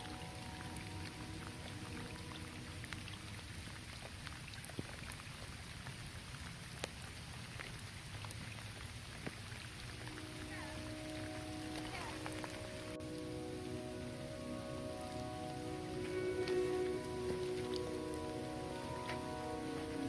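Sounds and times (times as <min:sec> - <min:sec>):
light rain on a roof: 0:00.0 - 0:20.0.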